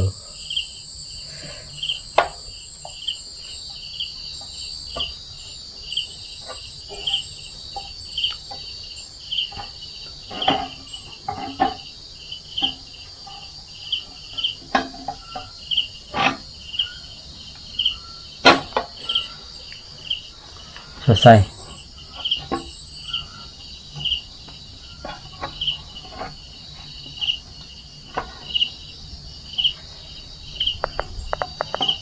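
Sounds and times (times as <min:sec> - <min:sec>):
crickets chirping: 0:00.0 - 0:32.0
high insect drone: 0:00.0 - 0:32.0.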